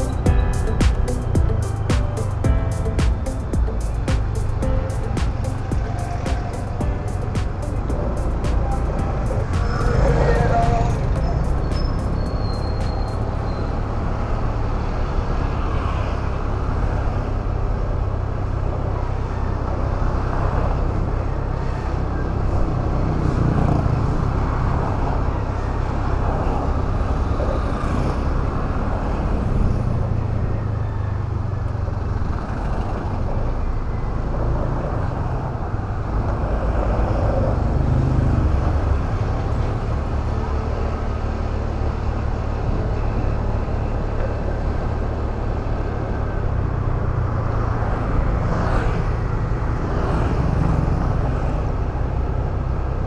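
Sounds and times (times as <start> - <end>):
city traffic: 0.0 - 53.0
road noise: 0.0 - 53.0.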